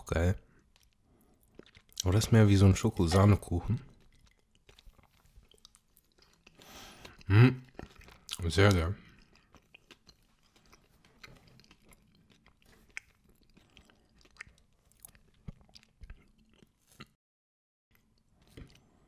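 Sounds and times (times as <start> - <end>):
chewing and mouth sounds: 0.4 - 17.2, 17.9 - 19.0.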